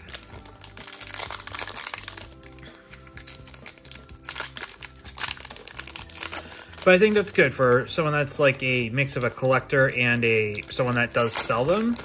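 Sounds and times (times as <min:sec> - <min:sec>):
background music: 0:00.0 - 0:12.0
foil wrapper crinkling: 0:00.0 - 0:12.0.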